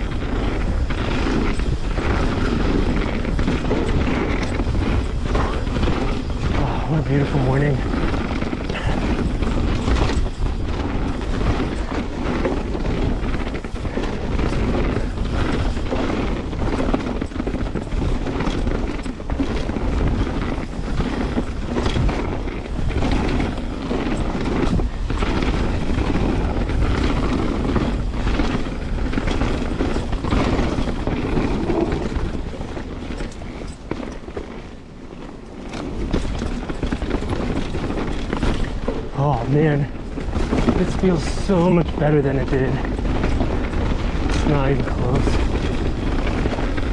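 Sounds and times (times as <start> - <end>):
bike knocks and rattles: 0.0 - 46.9
bike tyres rolling on dirt: 0.0 - 46.9
wind rushing over microphone: 0.0 - 46.9.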